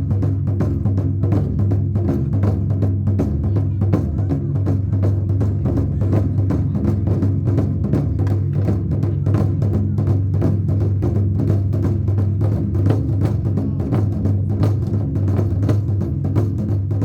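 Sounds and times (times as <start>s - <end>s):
fast taiko drumming: 0.0s - 17.0s.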